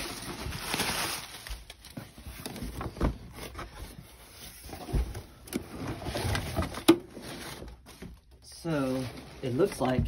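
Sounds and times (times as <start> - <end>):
plastic and cardboard rustling: 0.0 - 10.0.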